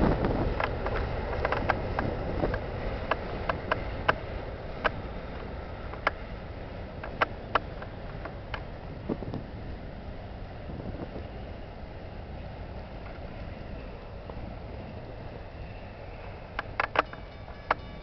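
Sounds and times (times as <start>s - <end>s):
freight train rumbling: 0.0s - 18.0s.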